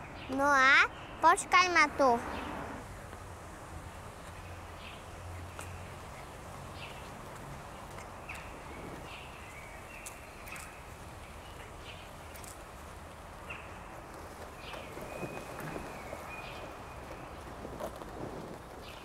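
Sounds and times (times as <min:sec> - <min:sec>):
low outdoor background: 0:00.0 - 0:19.0
small birds chirping: 0:00.0 - 0:19.0.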